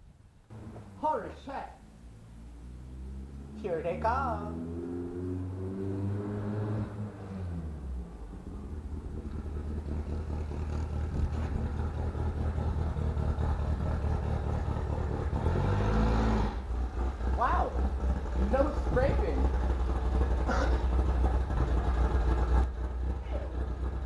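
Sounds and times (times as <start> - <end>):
car engine rumble: 0.0 - 24.0.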